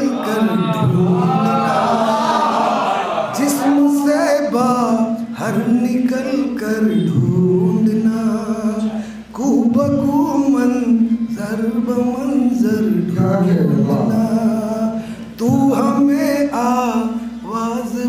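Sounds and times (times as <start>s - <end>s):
man singing unaccompanied: 0.0s - 2.5s, 3.3s - 18.0s.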